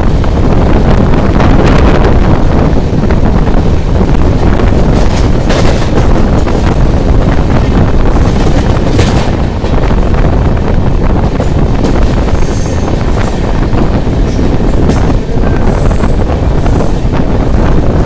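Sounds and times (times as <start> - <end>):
train rumbling on rails: 0.0 - 18.0
wind buffeting microphone: 0.0 - 18.0.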